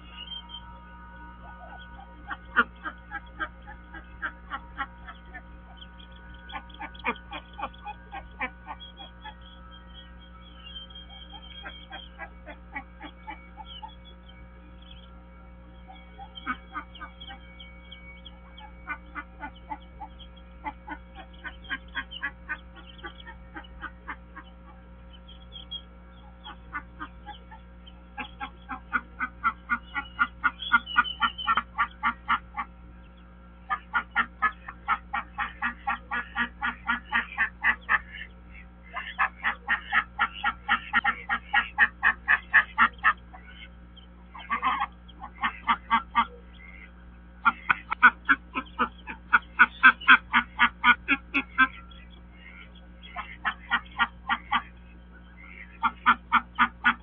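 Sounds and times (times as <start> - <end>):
duck calling: 0.0 - 15.1, 15.8 - 57.0
faint hum: 0.0 - 57.0.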